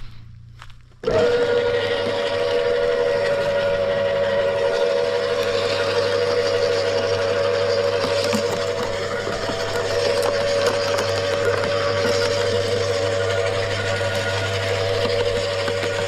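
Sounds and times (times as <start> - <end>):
wood chipper whining: 1.0 - 16.0.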